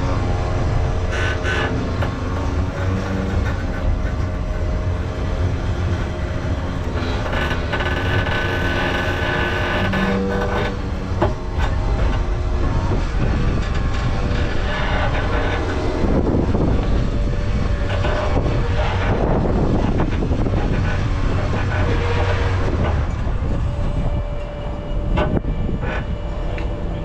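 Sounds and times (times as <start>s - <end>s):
heavy vehicle engine rumble: 0.0s - 27.0s
high whine: 0.0s - 27.0s.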